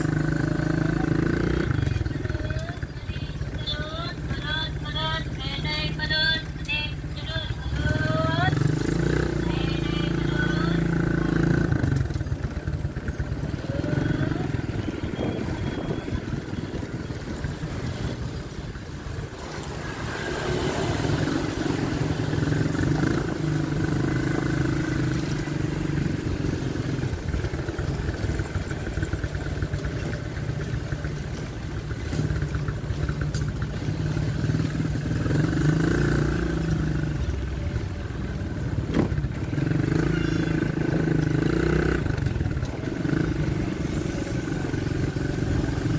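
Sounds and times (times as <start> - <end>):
motorcycle engine running: 0.0 - 45.9
road and wind noise: 0.0 - 45.9.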